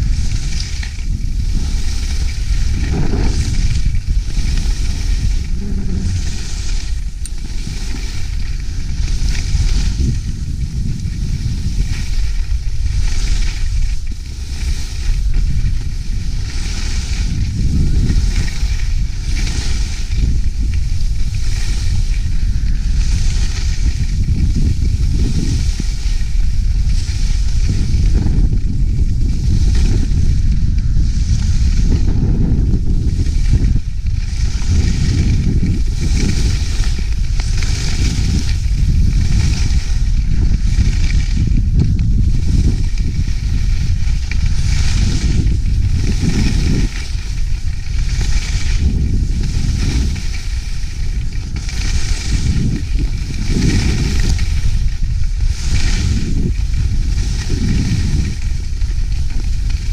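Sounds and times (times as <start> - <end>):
skis hissing and scraping on snow: 0.0 - 59.9
wind rumble on microphone: 0.0 - 59.9.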